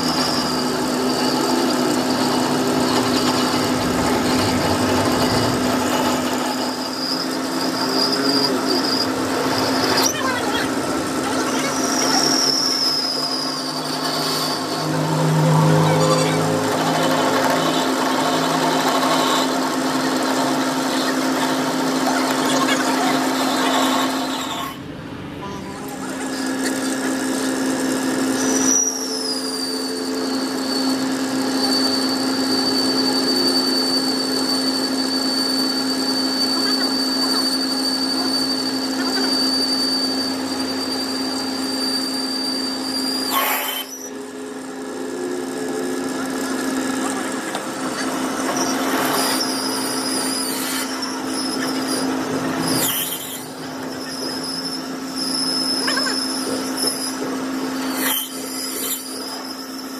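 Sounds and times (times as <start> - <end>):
high whine: 0.0 - 59.9
workshop machine running: 0.0 - 59.9.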